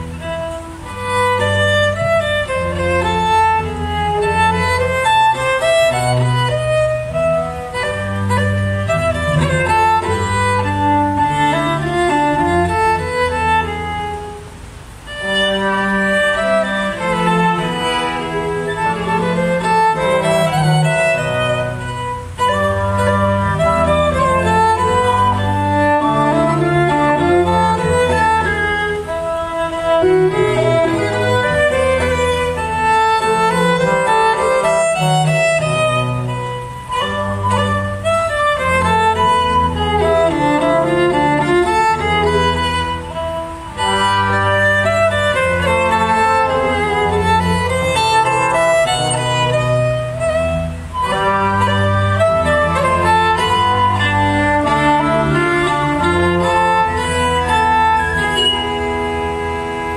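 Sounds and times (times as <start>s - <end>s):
early music ensemble playing dance: 0.0s - 59.9s.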